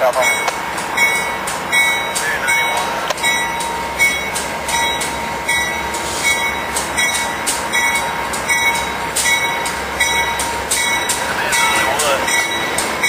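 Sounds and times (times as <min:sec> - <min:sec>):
diesel locomotive: 0:00.0 - 0:13.0
locomotive bell ringing: 0:00.0 - 0:13.0
brakes and wheels squealing: 0:00.2 - 0:13.0.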